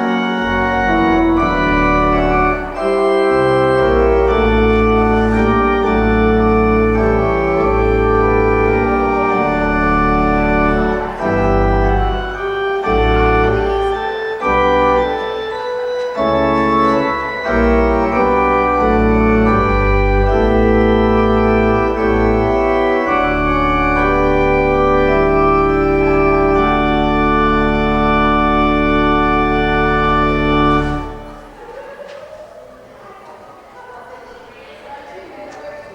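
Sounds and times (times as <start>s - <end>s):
keyboard sustained chords: 0.0s - 32.0s.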